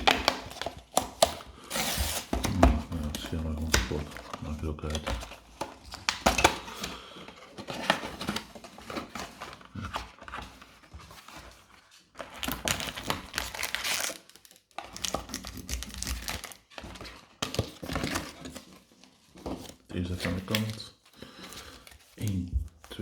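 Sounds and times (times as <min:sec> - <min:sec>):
packaging tearing: 0:00.0 - 0:10.6, 0:12.2 - 0:18.7, 0:20.0 - 0:22.4
plastic and foil packaging crinkling: 0:00.0 - 0:23.0.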